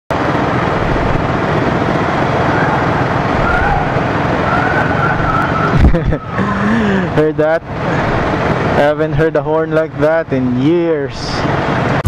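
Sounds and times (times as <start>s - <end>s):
traffic and engine noise: 0.1s - 12.0s.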